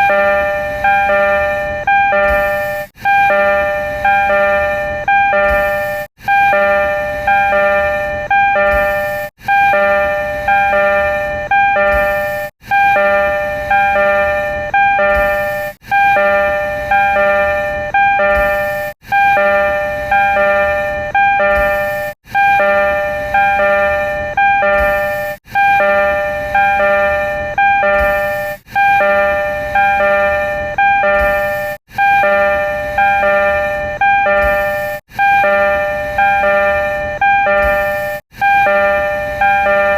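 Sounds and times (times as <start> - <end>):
electronic door chime: 0.0 - 39.9.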